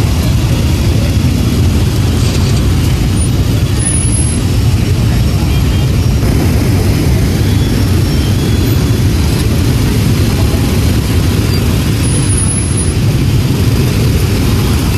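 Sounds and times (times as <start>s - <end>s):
motorbike engines idling: 0.0s - 14.9s.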